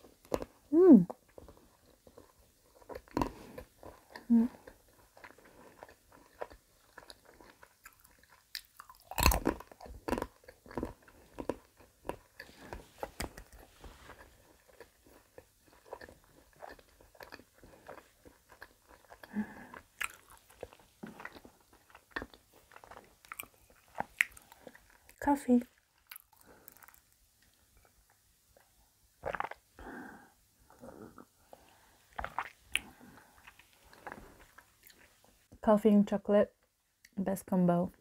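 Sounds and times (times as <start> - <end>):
chewing chocolate: 0.0 - 29.9, 30.7 - 35.4.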